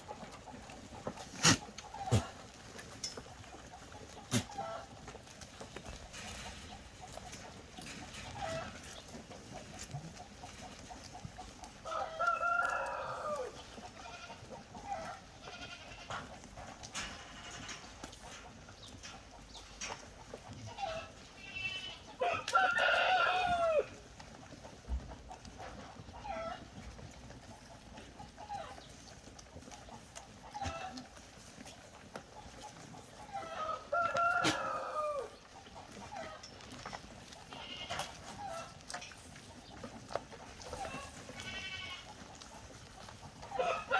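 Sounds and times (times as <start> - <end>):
farm animals calling: 0.0 - 43.9.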